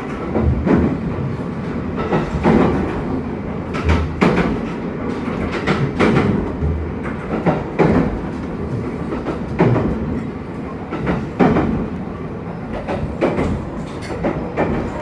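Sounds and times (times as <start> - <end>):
train rumble: 0.0 - 15.0
wheels clacking over rail joints: 0.0 - 15.0.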